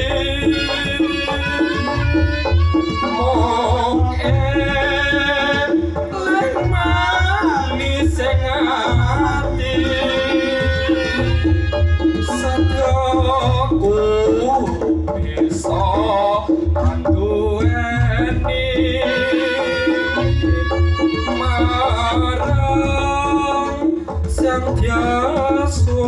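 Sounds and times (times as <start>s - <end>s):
drums beating low rhythm: 0.0s - 26.0s
gamelan music over sound system: 0.0s - 26.0s.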